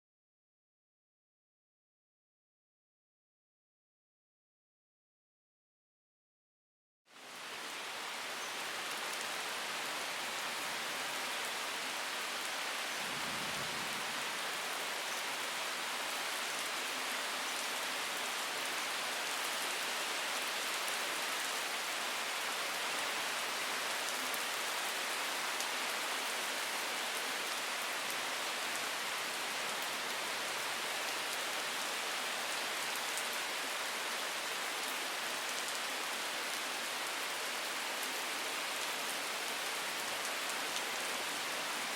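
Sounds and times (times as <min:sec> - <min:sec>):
rain falling in woodland: 0:07.1 - 0:41.9.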